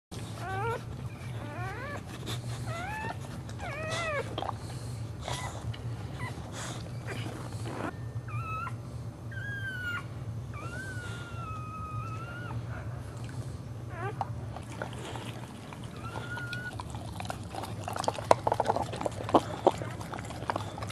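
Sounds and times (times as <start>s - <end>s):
dog whimpering and whining: 0.2s - 4.6s, 5.2s - 13.1s, 13.8s - 20.9s.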